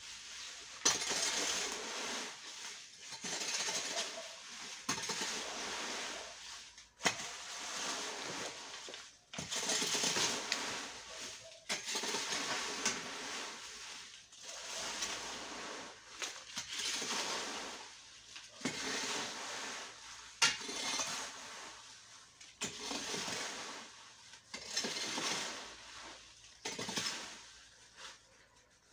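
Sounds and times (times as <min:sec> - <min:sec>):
rake scraping through dry leaves: 0:00.0 - 0:28.9.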